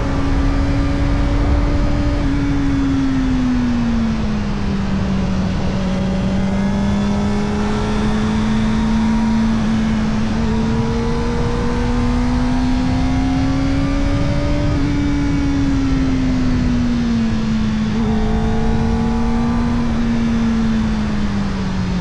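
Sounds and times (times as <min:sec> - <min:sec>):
motorcycle engine revving: 0:00.0 - 0:22.0
wind and road noise: 0:00.0 - 0:22.0.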